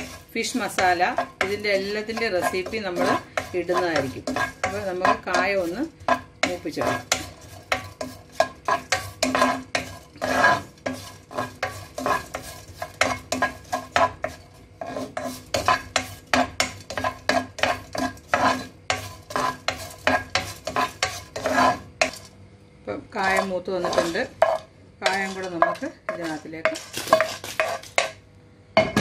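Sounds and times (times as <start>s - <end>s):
spatula scraping a pan: 0.0s - 22.3s, 23.2s - 28.2s.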